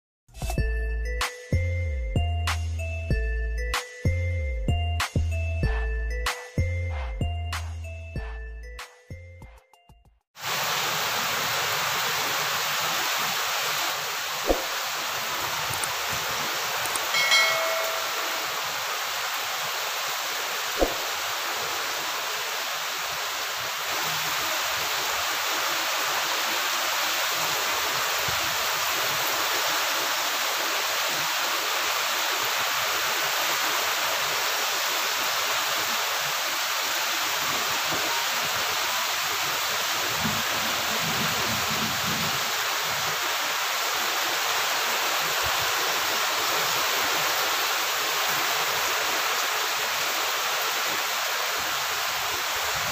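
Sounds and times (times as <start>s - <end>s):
heavy rain pouring on trees: 10.4s - 52.9s.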